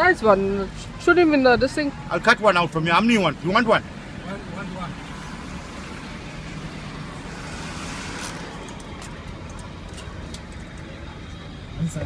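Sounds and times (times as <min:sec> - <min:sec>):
road traffic rumble: 0:00.0 - 0:12.0
vehicle passing: 0:00.0 - 0:12.0.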